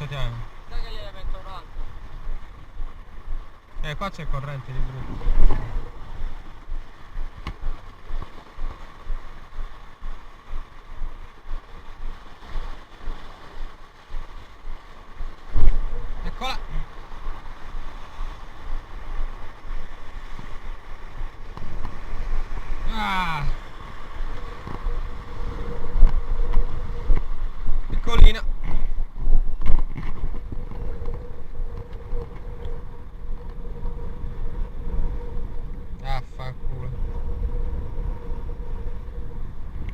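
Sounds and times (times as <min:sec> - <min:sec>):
faint steady hum: 0:00.0 - 0:39.9
rough sea washing: 0:00.0 - 0:39.9
wind rumbling on microphone: 0:00.0 - 0:39.9.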